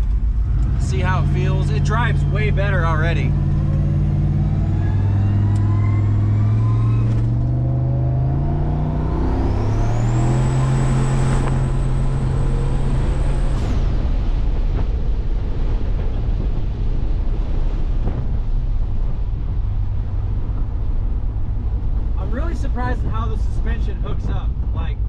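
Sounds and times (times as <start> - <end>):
car engine accelerating: 0.0 - 25.0
turbo whine: 0.0 - 25.0
wind and road rush: 0.0 - 25.0.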